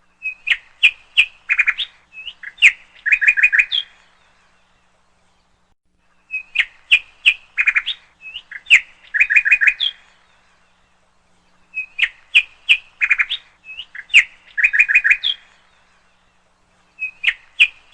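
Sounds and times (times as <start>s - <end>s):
songbird chirping and whistling: 0.1s - 17.9s.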